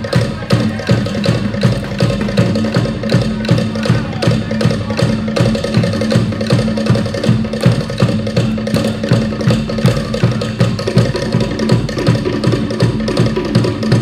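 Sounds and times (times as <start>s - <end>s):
wooden slit drums beating: 0.0s - 14.0s.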